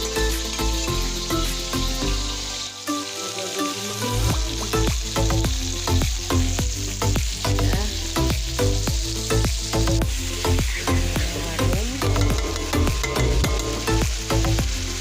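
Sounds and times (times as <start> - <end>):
background music with beat: 0.0 - 15.0
food sizzling in oil: 0.0 - 15.0.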